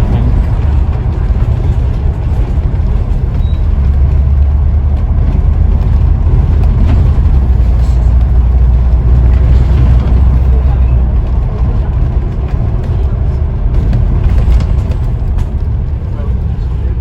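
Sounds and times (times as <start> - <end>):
bus engine deep drone: 0.0 - 17.0.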